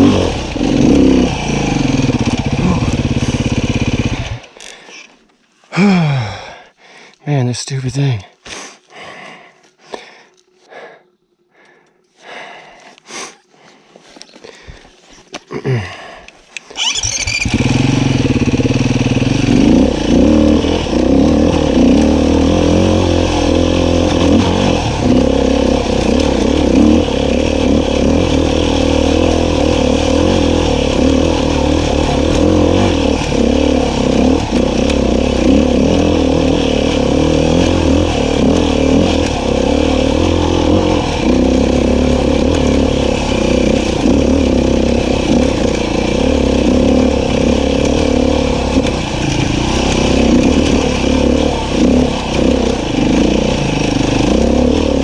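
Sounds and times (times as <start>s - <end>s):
dirt bike engine running: 0.0s - 6.6s, 16.8s - 55.0s.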